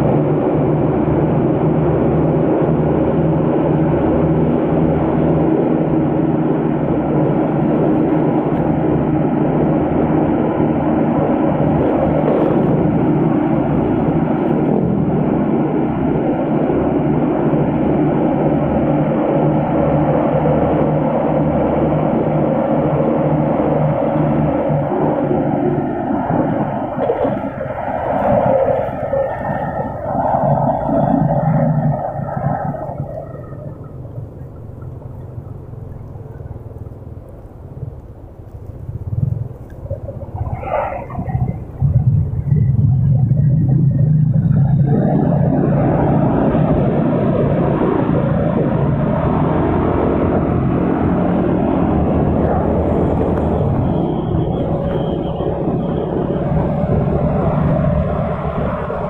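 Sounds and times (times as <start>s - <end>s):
rushing air: 0.0s - 35.9s, 36.6s - 59.0s
motor scooter engine: 0.0s - 59.0s
road traffic engines: 0.0s - 59.0s.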